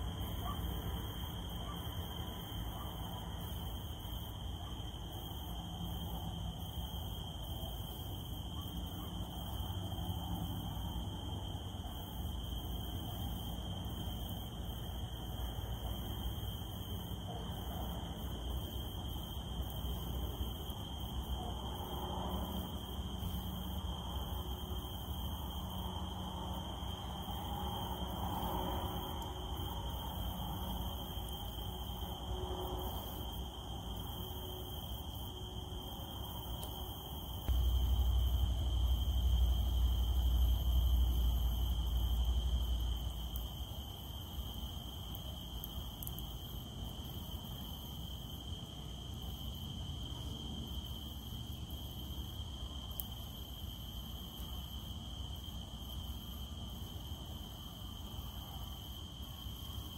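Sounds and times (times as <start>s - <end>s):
cicadas droning: 0.0s - 59.9s.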